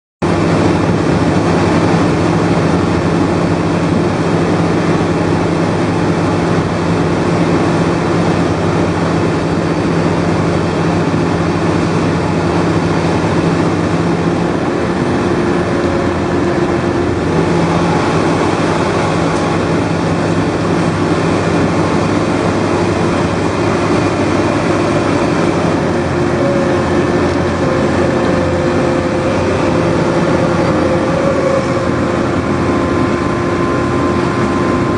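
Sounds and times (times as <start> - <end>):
drilling machine engine running: 0.2 - 34.9.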